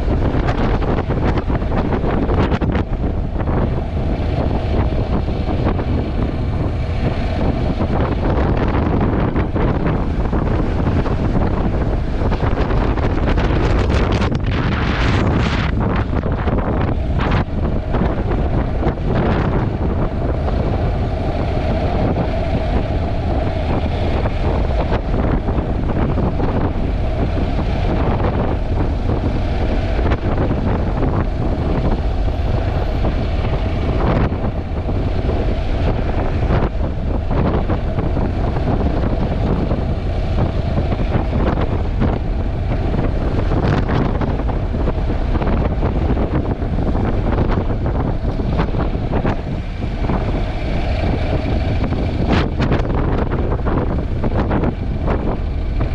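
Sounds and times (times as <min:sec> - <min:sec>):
motorcycle running: 0:00.0 - 0:55.9
wind buffeting microphone: 0:00.0 - 0:55.9.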